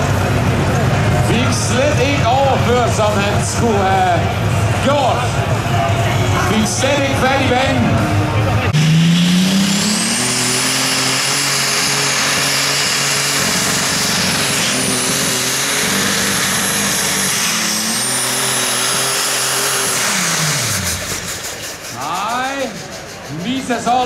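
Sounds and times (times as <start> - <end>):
tractor engine at high revs: 0.0 - 24.0.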